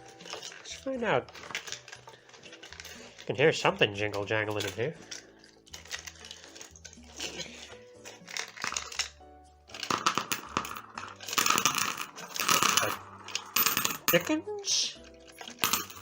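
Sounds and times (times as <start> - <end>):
crinkling rustling and clinking: 0.0 - 14.4, 15.0 - 16.0.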